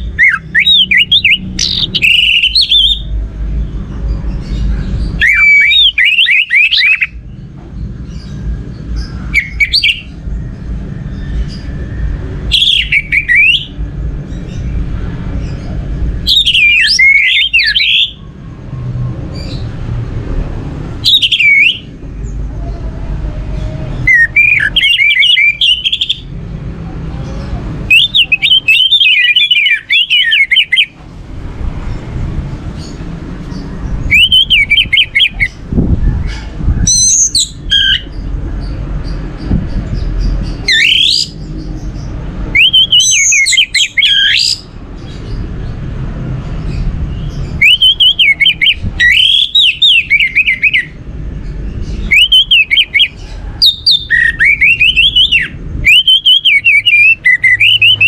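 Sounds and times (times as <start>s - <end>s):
thrush singing: 0.0s - 58.0s.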